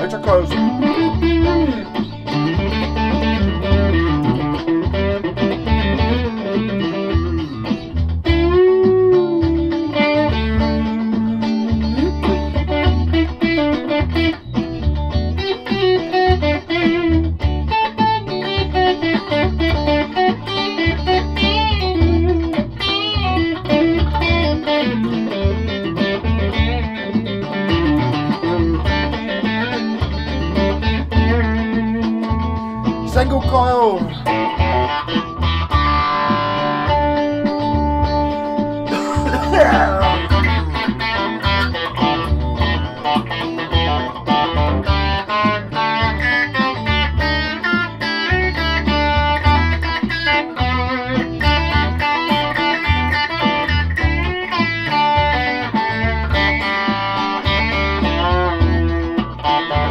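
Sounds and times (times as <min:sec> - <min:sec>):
electric guitar through amplifier: 0:00.0 - 0:59.9.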